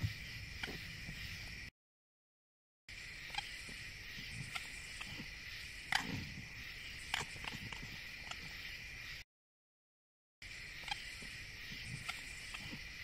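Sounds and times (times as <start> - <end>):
crickets chirping: 0.0 - 1.7, 2.9 - 9.2, 10.4 - 13.0.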